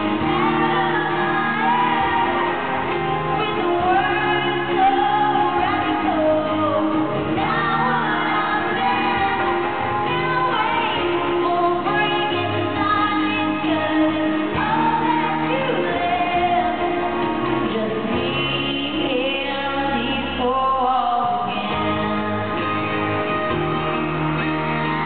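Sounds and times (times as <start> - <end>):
woman singing: 0.0 - 23.0
acoustic guitar: 0.0 - 25.0
backing singers: 0.0 - 25.0
keyboard: 0.0 - 25.0
upright bass: 0.0 - 25.0.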